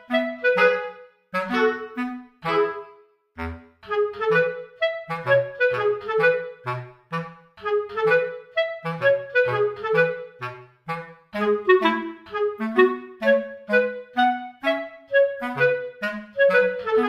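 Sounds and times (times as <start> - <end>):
light bouncy background music: 0.0 - 17.0.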